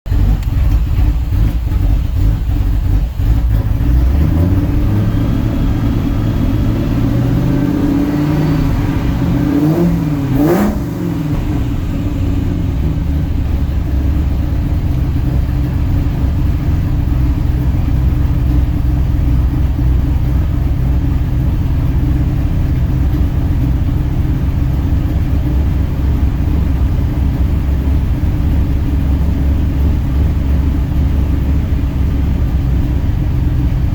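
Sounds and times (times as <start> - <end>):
car engine revving and idling: 0.0 - 33.9.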